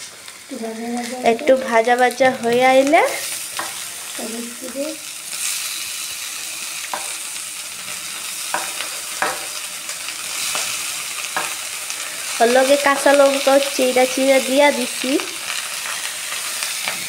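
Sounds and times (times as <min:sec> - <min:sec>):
vegetables frying in oil: 0:00.0 - 0:17.0.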